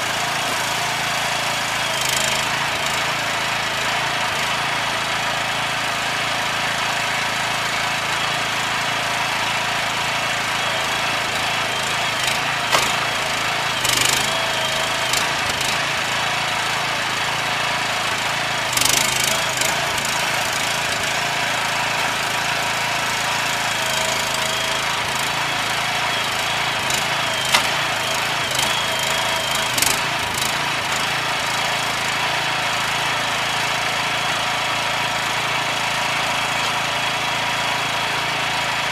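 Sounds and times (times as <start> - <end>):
engine-driven machine running: 0.0 - 38.9.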